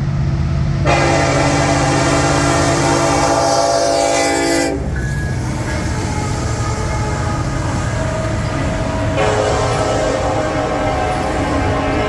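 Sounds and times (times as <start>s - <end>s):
train rumble: 0.0s - 12.0s
locomotive air horn: 0.8s - 12.0s.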